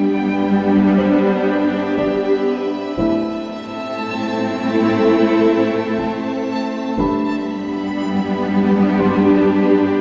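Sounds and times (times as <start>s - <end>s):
slow string-like background music: 0.0s - 10.0s.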